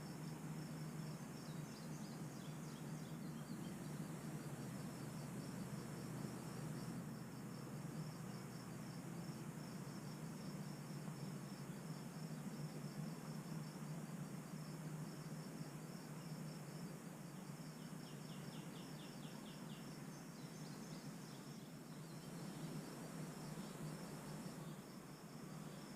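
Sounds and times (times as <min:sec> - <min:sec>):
insects chirping: 0:00.0 - 0:25.9
lower insect trill: 0:00.0 - 0:25.9.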